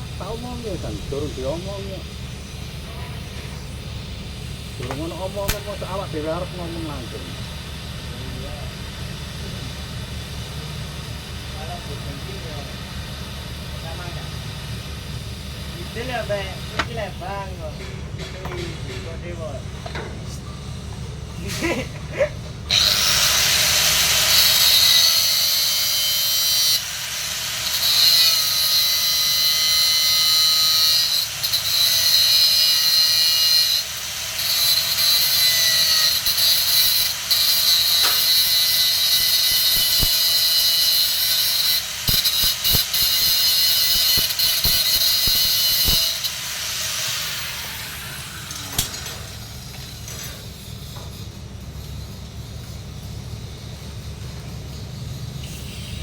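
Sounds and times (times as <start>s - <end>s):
welding arc crackling hiss: 0.0s - 17.6s, 22.7s - 56.0s.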